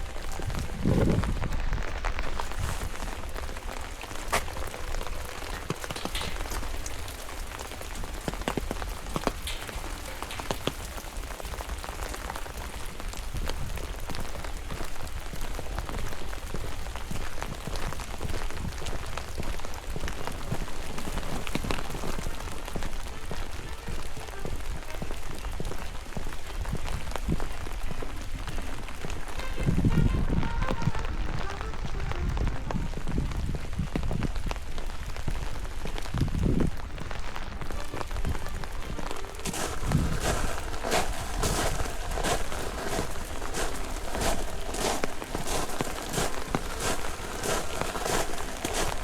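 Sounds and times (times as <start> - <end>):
steady rain in forest: 0.0 - 49.0.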